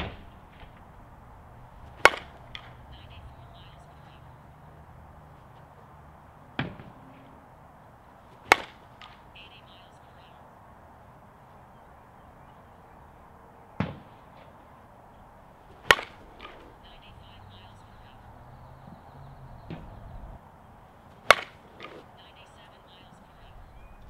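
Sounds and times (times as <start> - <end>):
bat hitting softballs: 0.0 - 24.0.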